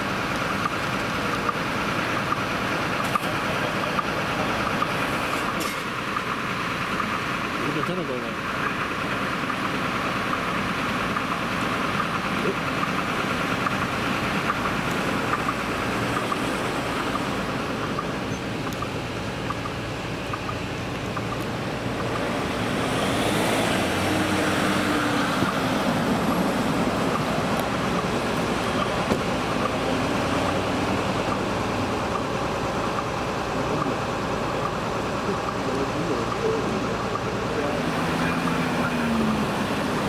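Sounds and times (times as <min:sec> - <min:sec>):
ambulance driving past: 0:00.0 - 0:40.0.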